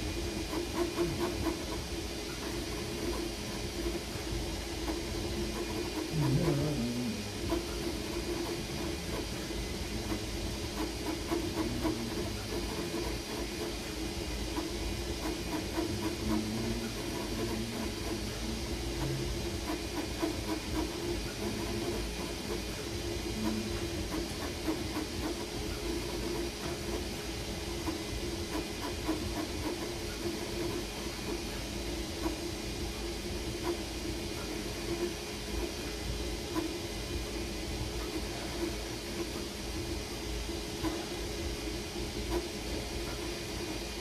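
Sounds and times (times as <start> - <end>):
cooling fans humming and hissing: 0.0 - 44.0.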